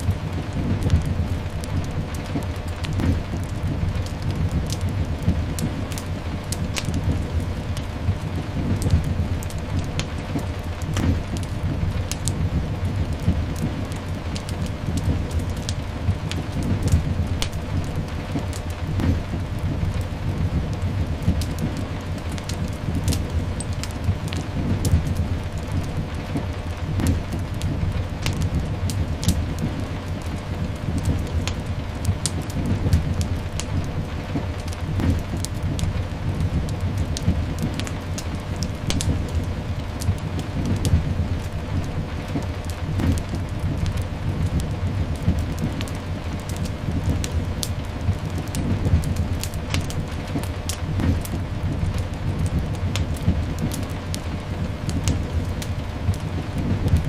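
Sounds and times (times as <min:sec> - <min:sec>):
deep continuous rumble: 0:00.0 - 0:57.0
fire crackling and popping: 0:00.0 - 0:57.0
steady rain hiss: 0:00.0 - 0:57.0.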